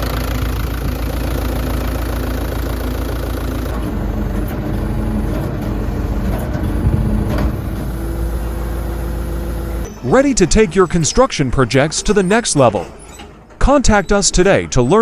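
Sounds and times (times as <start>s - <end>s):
diesel engine running: 0.0s - 14.8s.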